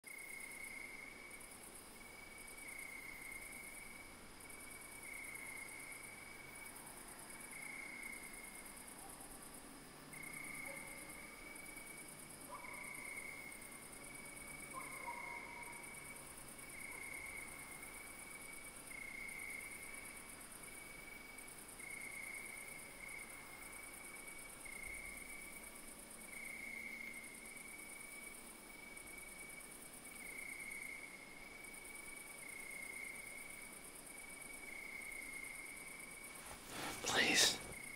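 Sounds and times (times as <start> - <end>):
crickets trilling: 0.1 - 37.9
pulsing insect chorus: 0.1 - 37.9.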